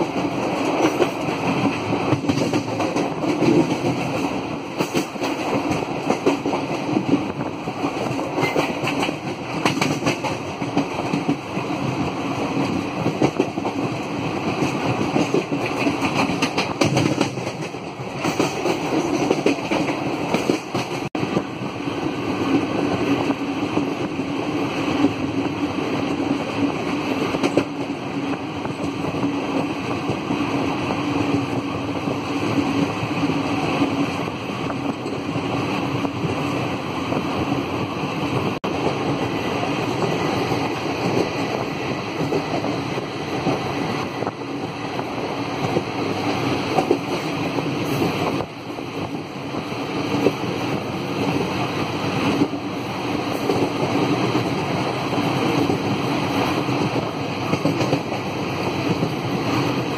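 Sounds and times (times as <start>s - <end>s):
clatter over the track: 0.0s - 21.5s, 22.4s - 36.6s, 38.3s - 59.9s
train wheels rumbling on rails: 0.0s - 59.9s.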